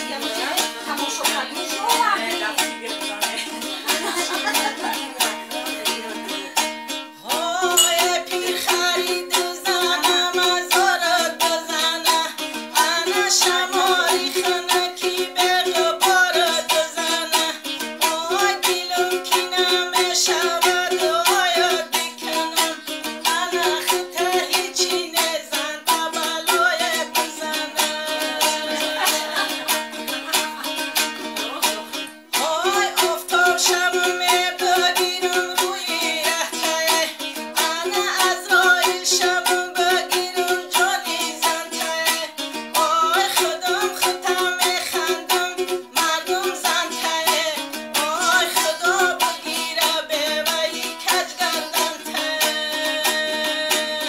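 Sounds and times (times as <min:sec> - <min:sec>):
lute strumming: 0:00.0 - 0:54.0
woman singing folk song: 0:00.0 - 0:54.0.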